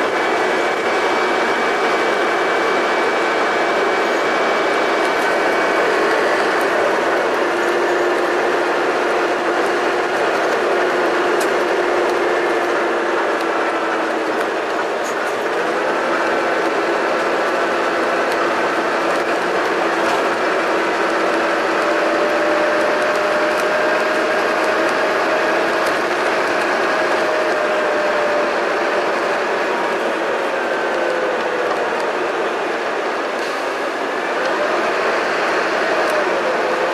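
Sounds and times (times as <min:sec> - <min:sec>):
bus engine hum: 0:00.0 - 0:36.9.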